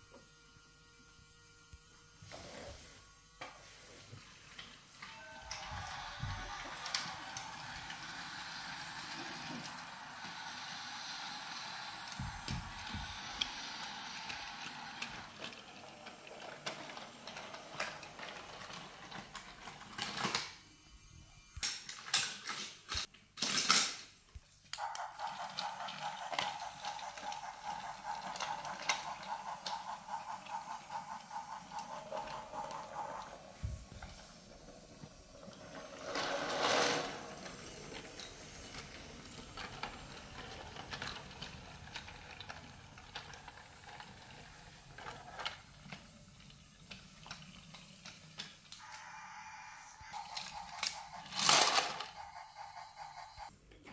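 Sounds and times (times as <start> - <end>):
toy train motor whirring: 0.0 - 53.5.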